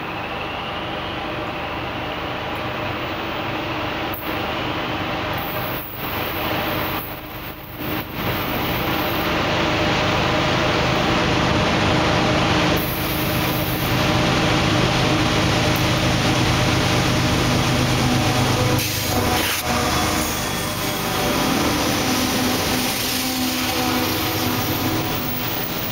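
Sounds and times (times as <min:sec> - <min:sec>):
diesel locomotives at full power: 0:00.0 - 0:25.9.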